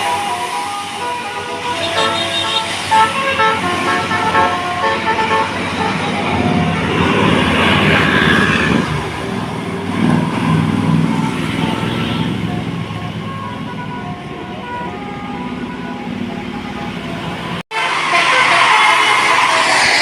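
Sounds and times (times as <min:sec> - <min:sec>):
bus engine passing: 0:00.0 - 0:20.0.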